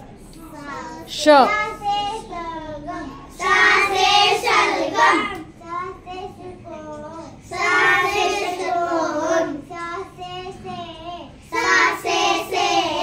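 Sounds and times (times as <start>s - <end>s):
children chanting words: 0.4s - 13.0s.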